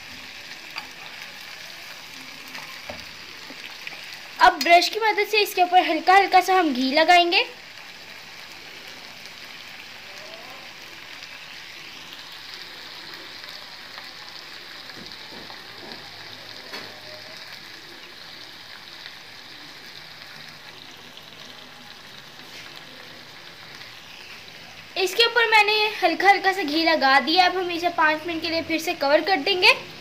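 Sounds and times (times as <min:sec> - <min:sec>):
chicken sizzling in pan: 0:00.0 - 0:30.0.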